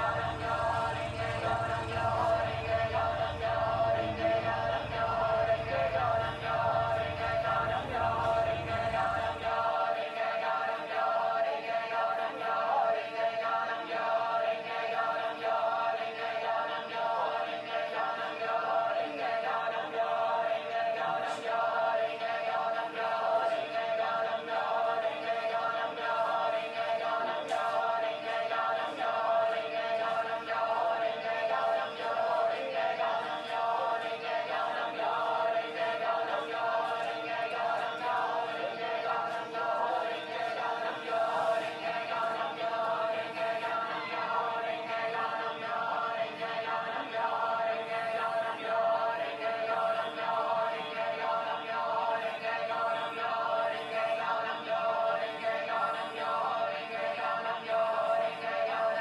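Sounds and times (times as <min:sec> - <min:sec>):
choir voices holding tones: 0:00.0 - 0:59.0.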